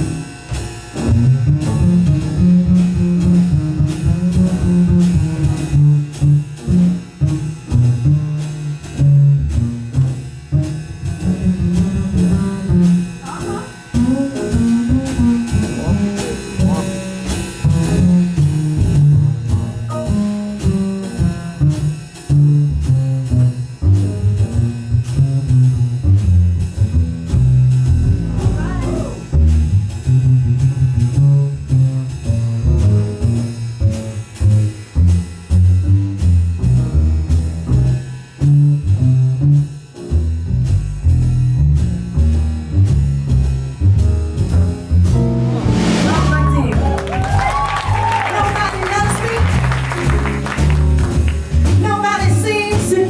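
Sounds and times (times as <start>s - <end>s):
upright bass notes: 0.0s - 53.0s.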